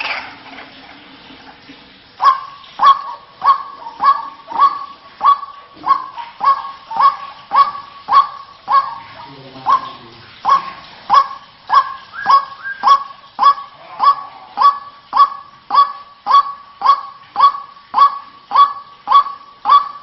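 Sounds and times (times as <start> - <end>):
waterhen calling harsh notes: 2.0 - 20.0.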